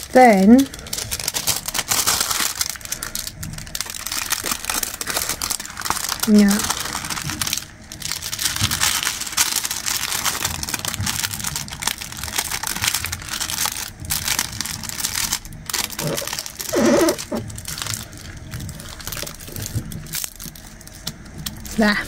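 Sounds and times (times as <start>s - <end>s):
plastic film crinkling: 0.0s - 22.0s.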